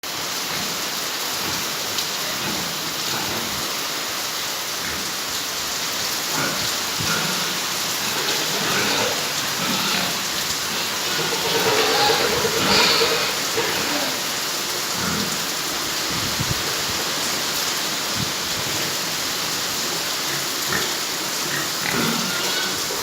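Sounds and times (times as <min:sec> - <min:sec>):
rain hissing on a surface: 0:00.0 - 0:23.0.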